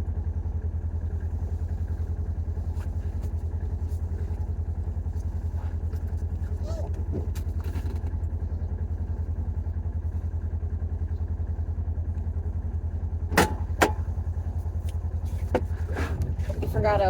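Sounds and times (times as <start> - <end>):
vehicle engine pulsing drone: 0.0 - 17.0.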